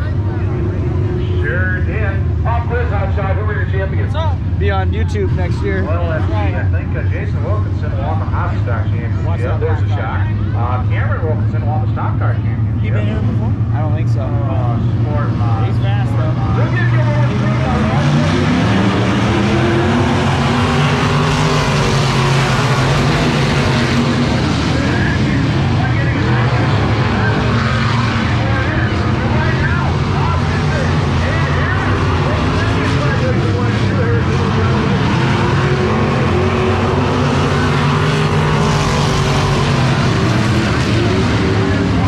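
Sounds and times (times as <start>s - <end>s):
stock car engines racing: 0.0s - 42.0s.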